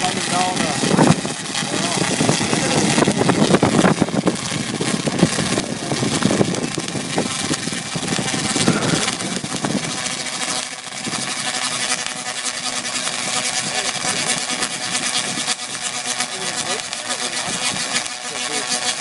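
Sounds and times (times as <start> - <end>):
tesla coil crackling buzz: 0.0 - 19.0.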